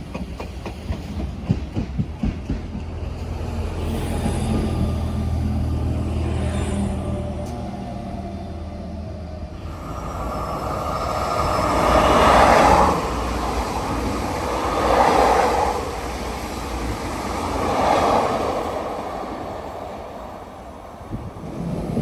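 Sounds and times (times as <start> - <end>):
train rushing along tracks: 0.0 - 22.0.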